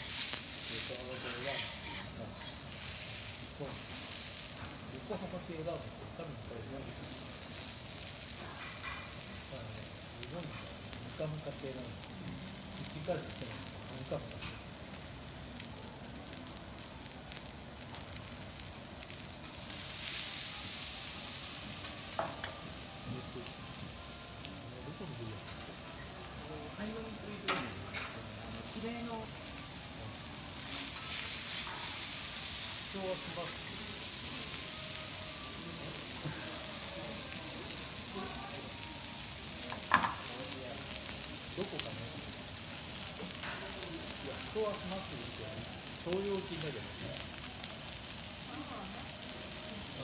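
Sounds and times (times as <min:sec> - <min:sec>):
meat sizzling on a griddle: 0:00.0 - 0:50.0.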